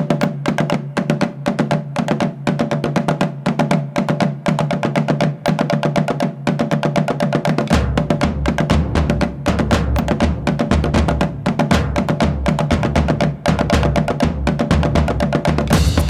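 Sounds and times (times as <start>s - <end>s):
mechanical drum beating: 0.0s - 16.0s.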